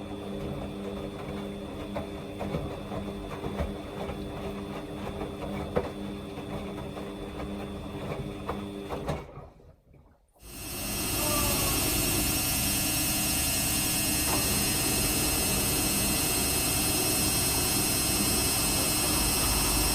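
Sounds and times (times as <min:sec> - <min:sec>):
washing machine motor hum: 0:00.0 - 0:09.4, 0:10.4 - 0:19.9.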